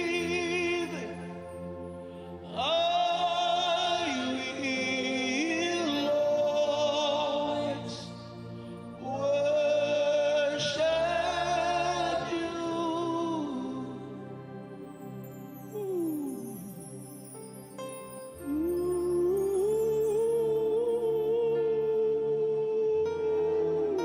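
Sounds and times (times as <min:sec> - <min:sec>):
person singing wordless phrases: 0:00.0 - 0:01.5, 0:02.4 - 0:08.4, 0:09.0 - 0:14.5, 0:15.7 - 0:17.2, 0:18.4 - 0:24.0.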